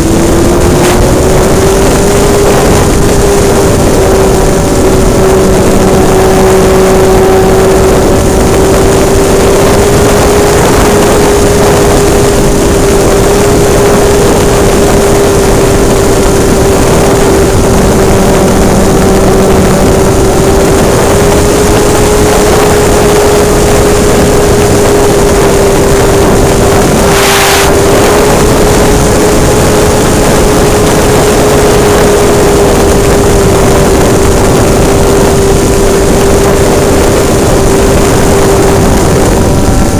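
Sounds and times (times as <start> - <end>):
model airplane engine and propeller: 0.0 - 39.9.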